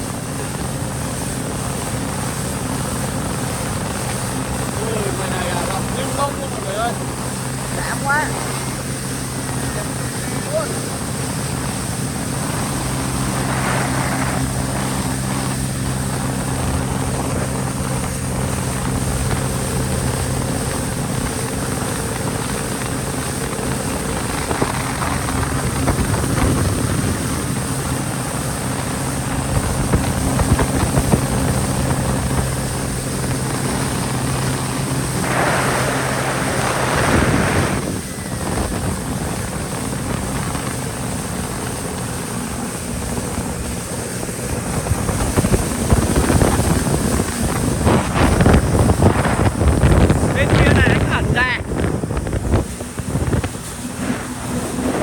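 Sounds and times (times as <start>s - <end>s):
jet ski engine running: 0.0s - 55.0s
wind and water rushing: 0.0s - 55.0s.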